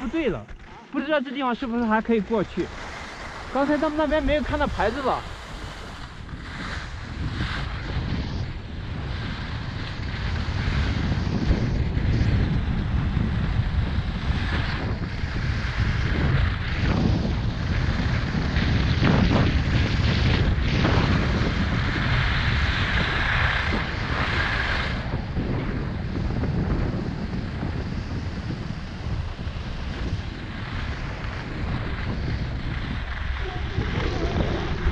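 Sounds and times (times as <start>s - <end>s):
skis scraping over snow: 0.0s - 34.9s
wind buffeting microphone: 0.0s - 34.9s.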